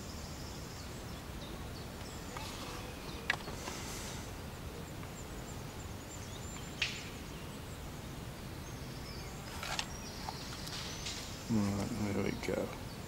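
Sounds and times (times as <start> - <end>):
low rumble of background noise: 0.0 - 13.0.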